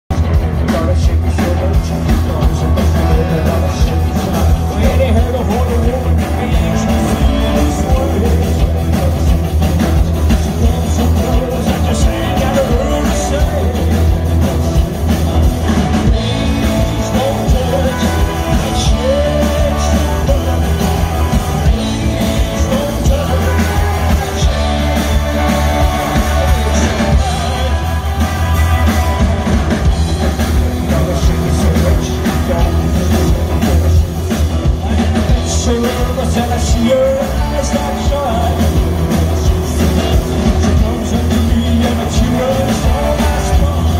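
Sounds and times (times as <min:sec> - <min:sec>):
live rock band playing: 0:00.1 - 0:43.9
person singing: 0:00.1 - 0:43.9.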